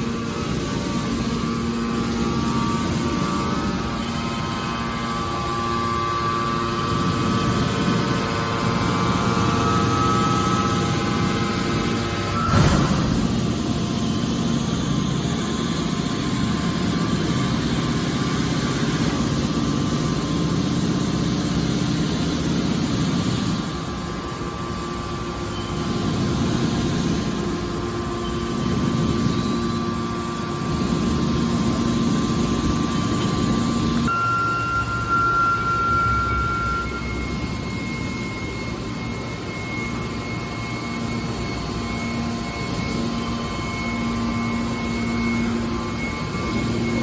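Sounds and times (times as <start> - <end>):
hydraulic baler running: 0.0 - 47.0
thin high whine: 0.0 - 47.0.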